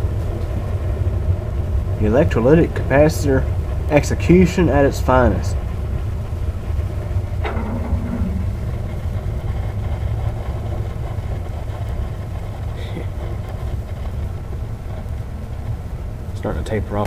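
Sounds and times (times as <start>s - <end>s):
low rumble of stove flames: 0.0s - 17.0s
sharp fire crackle: 0.0s - 17.0s.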